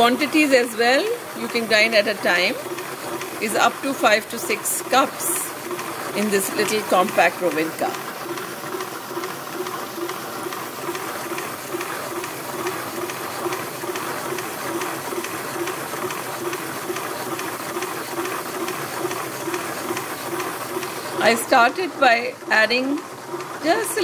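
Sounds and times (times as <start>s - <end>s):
wet grinder whirring: 0.0s - 24.0s.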